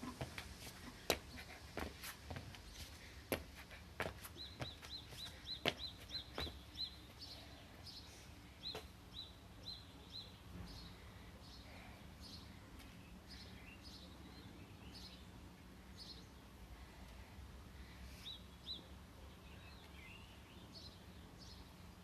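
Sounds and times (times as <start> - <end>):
faint bird chirping: 0.9 - 22.0.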